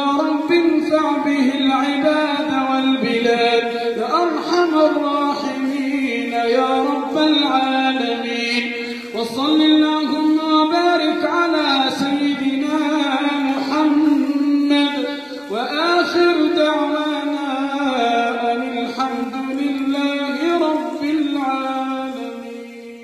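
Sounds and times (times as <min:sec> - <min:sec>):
man chanting: 0:00.0 - 0:23.0.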